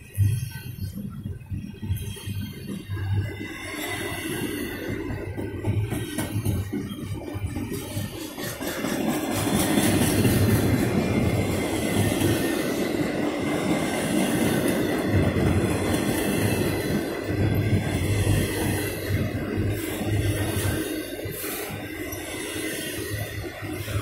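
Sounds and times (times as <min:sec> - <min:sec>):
freight train rolling on steel wheels: 0:00.0 - 0:24.0.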